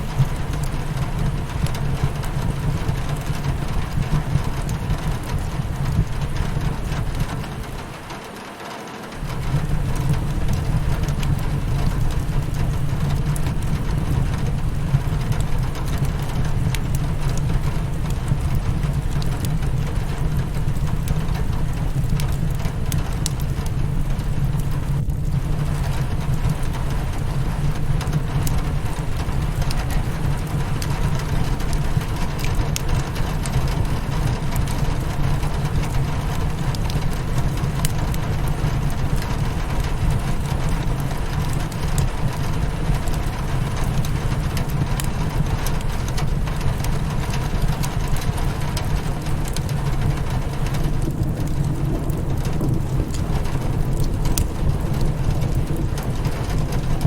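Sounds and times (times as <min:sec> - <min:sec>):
fire crackling and popping: 0:00.0 - 0:08.4, 0:09.1 - 0:57.0
rain on a windowpane: 0:00.0 - 0:57.0.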